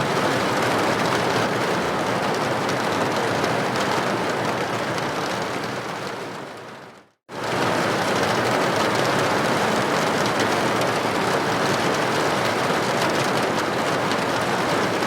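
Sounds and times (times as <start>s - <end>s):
rain on a window: 0.0s - 15.0s.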